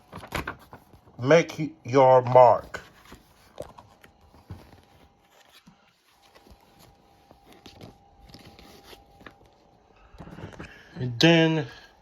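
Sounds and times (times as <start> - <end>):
book pages rustling: 0.0 - 1.4, 2.0 - 10.8
faint steady hum: 0.0 - 12.0.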